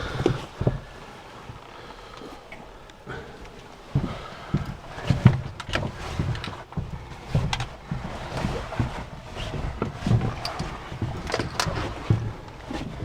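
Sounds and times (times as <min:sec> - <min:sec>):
footsteps and scuffs in tunnel: 0:00.0 - 0:13.0.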